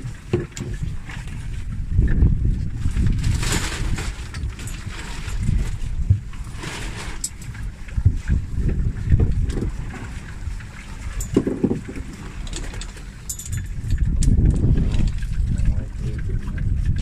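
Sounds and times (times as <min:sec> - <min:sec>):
boat on water: 0:00.0 - 0:17.0
wind buffeting microphone: 0:00.0 - 0:17.0.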